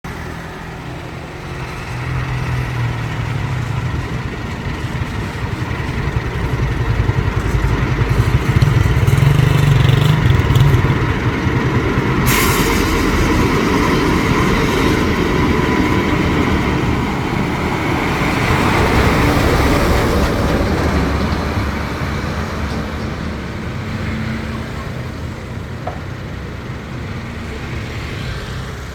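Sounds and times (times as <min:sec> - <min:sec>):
vehicles passing: 0:00.0 - 0:28.9
dump truck engine running: 0:00.1 - 0:28.9.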